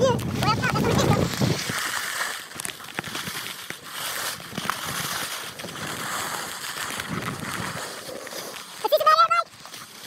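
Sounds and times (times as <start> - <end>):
skis scraping over snow: 0.0 - 10.0
snow crackles: 0.0 - 10.0.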